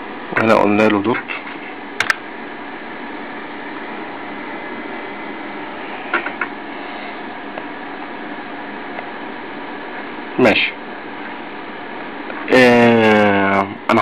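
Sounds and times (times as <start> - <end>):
room and machine hiss: 0.0 - 14.0.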